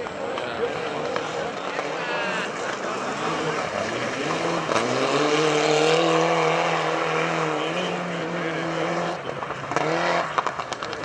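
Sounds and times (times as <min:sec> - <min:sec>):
car sliding on gravel: 0:00.0 - 0:11.0
rally car engine at high revs: 0:00.0 - 0:11.0.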